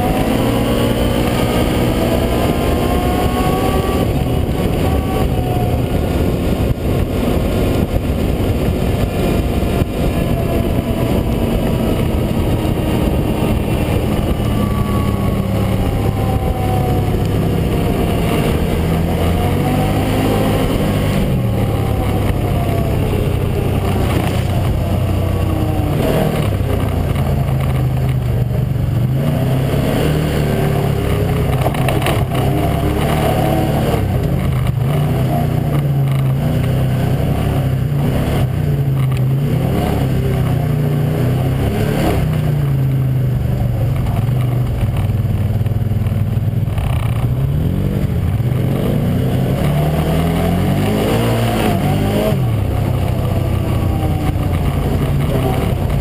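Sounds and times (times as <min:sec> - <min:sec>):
gravel noise: 0:00.0 - 0:56.0
utility vehicle engine revving: 0:00.0 - 0:56.0
wind noise: 0:00.0 - 0:56.0.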